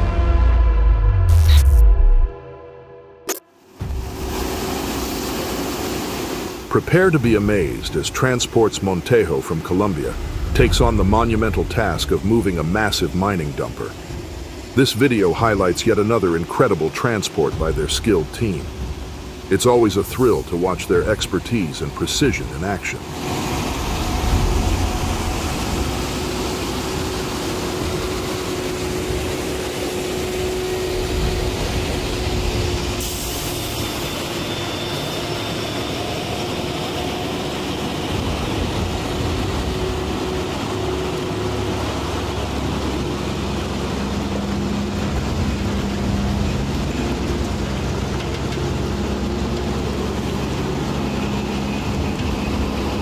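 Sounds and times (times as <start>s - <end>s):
diesel truck engines droning: 6.6s - 53.0s.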